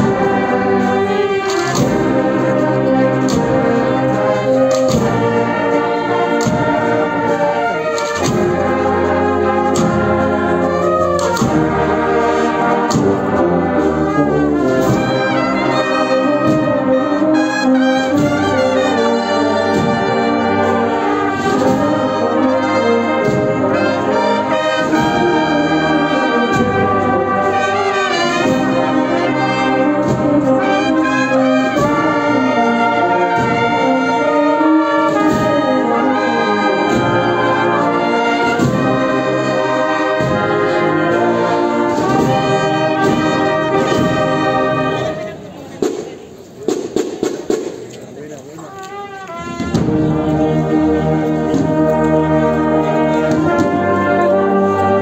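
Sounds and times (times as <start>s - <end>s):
drum strokes: 0.0s - 48.1s, 49.3s - 55.0s
brass marching band playing: 0.0s - 55.0s.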